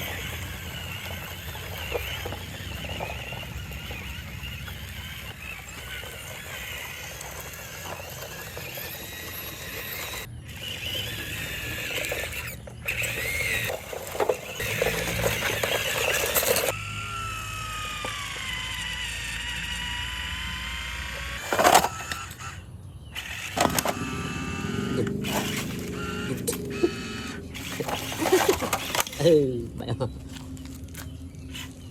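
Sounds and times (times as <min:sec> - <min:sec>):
toy truck motor whining: 0:00.0 - 0:31.9.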